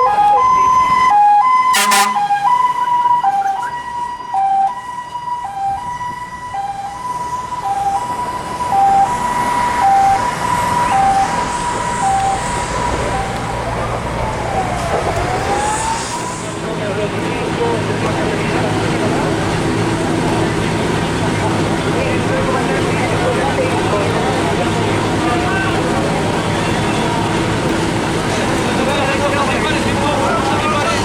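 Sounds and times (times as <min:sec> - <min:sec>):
two-tone emergency siren: 0:00.0 - 0:31.0.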